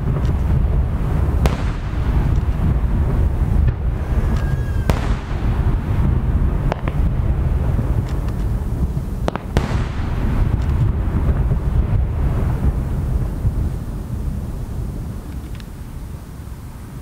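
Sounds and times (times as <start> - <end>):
firework shells bursting: 0.0 - 13.9
low rumble: 0.0 - 17.0.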